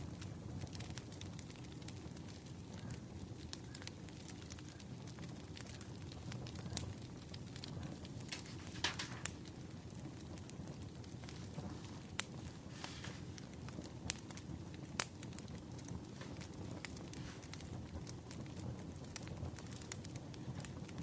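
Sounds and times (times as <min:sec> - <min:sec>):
firewood crackling and popping: 0:00.0 - 0:21.0
low fire rumble: 0:00.0 - 0:21.0.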